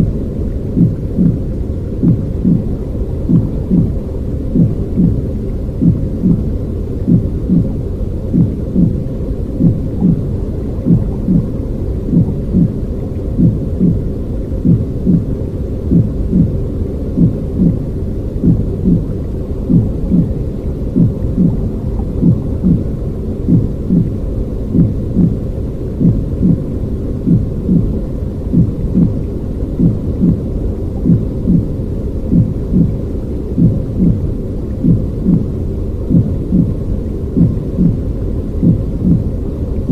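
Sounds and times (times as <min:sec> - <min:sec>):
deep rumbling noise: 0:00.0 - 0:39.9
soft regular pulse: 0:00.0 - 0:39.9.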